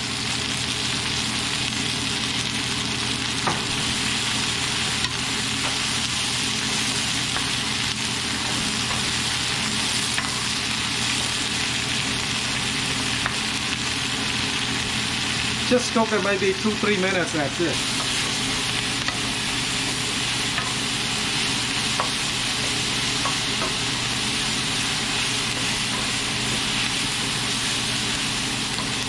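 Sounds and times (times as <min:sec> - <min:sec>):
cabbage sizzling in a frying pan: 0:00.0 - 0:29.0.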